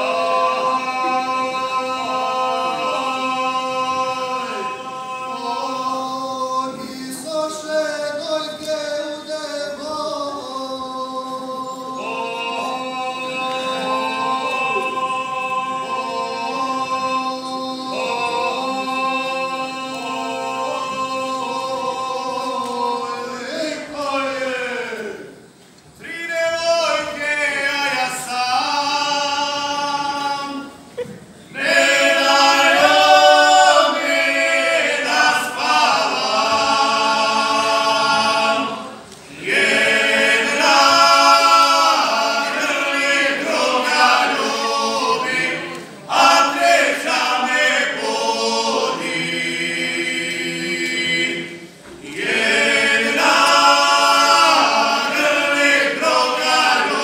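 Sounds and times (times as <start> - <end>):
male vocal group singing a cappella: 0.0 - 25.3, 26.0 - 30.8, 31.5 - 57.0.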